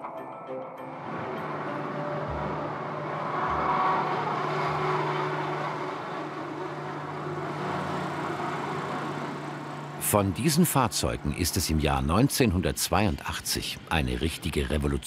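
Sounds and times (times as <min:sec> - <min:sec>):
electric railcar humming and rumbling: 0:00.0 - 0:15.0.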